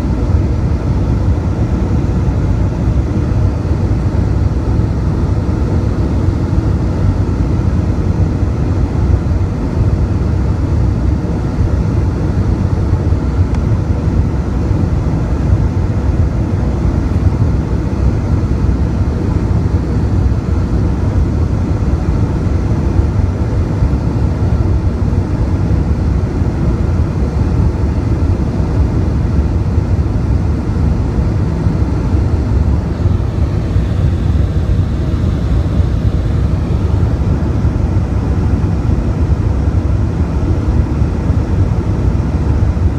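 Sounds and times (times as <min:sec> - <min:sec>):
jet engine and airflow rush: 0:00.0 - 0:42.9.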